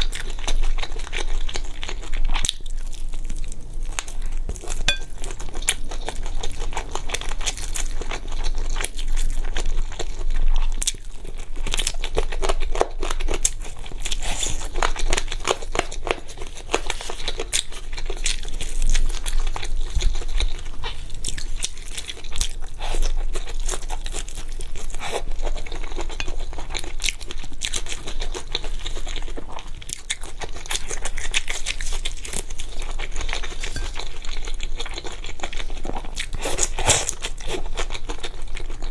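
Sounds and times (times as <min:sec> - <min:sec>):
close chewing crunching food: 0:00.0 - 0:38.9.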